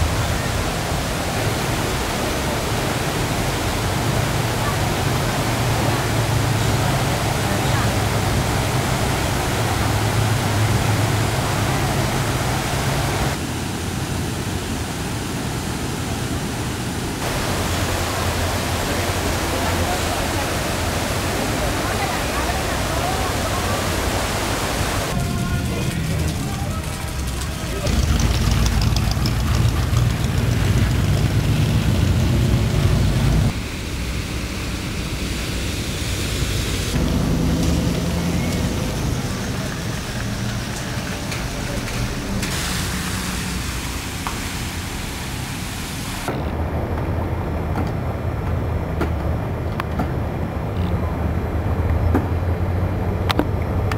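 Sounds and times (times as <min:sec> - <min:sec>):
river in flood rushing: 0:00.0 - 0:53.9
traffic rumble: 0:00.0 - 0:53.9.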